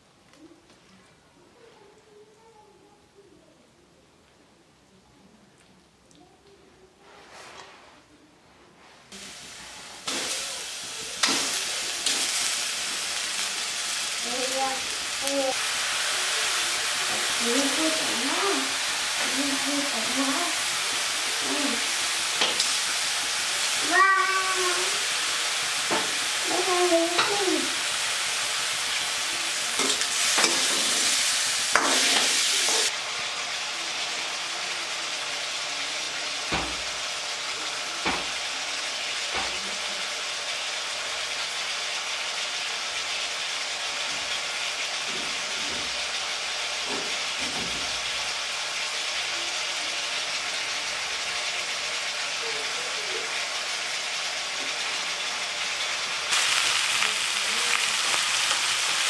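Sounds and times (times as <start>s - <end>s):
meat sizzling in a wok: 9.1s - 59.0s.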